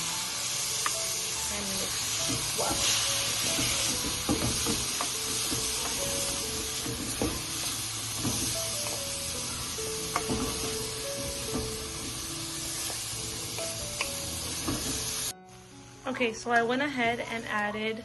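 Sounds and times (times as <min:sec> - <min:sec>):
vegetables sizzling in a pan: 0:00.0 - 0:17.9.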